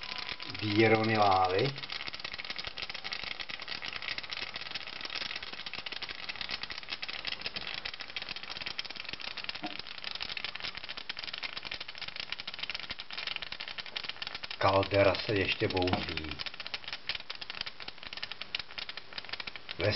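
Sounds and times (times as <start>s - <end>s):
beer foam fizzing: 0.0s - 19.9s.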